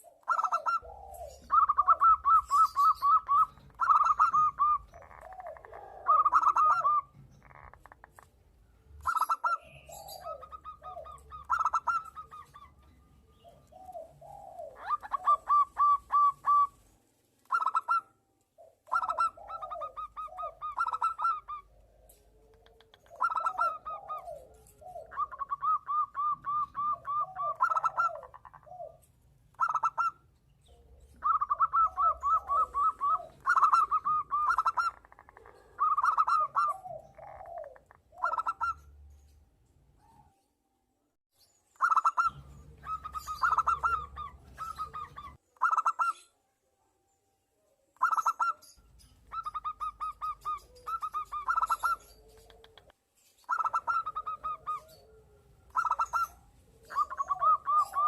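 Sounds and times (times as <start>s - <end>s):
doves cooing: 0.0s - 16.8s, 17.4s - 39.0s, 41.8s - 46.2s, 49.3s - 58.0s.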